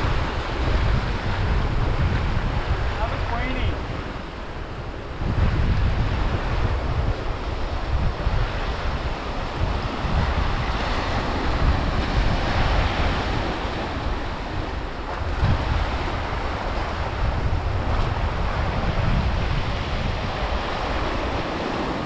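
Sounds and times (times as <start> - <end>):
ocean waves breaking on rock: 0.0 - 22.0
wind buffeting microphone: 0.0 - 22.0.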